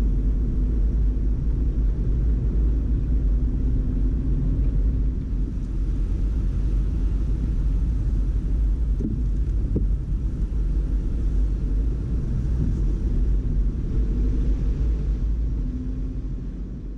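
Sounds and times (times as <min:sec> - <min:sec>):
car engine and tyre noise: 0:00.0 - 0:16.9
tyres on flooded road: 0:01.5 - 0:16.9.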